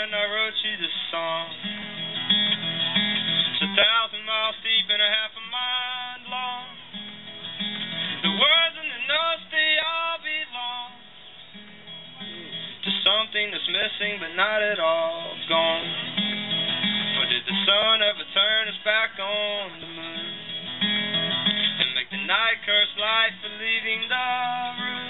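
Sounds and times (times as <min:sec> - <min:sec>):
solo acoustic guitar: 0:00.0 - 0:25.0.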